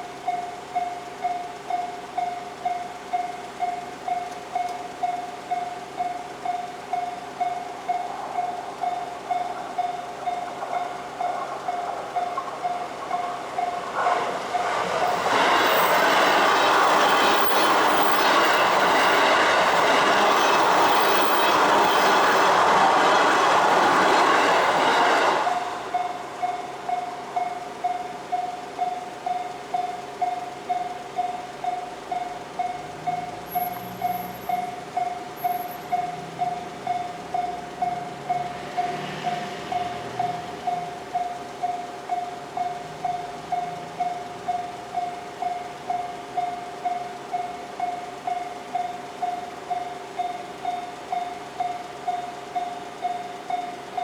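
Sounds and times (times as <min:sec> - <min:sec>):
crossing warning bell ringing: 0:00.0 - 0:54.0
train wheels rumbling on rails: 0:00.0 - 0:54.0.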